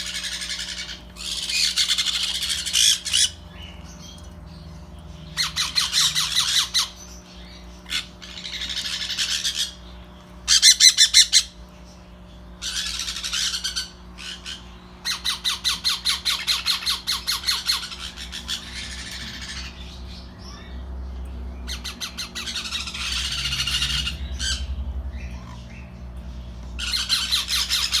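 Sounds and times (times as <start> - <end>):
baby parrots squawking: 0.0 - 4.2, 5.2 - 11.6, 12.6 - 28.0.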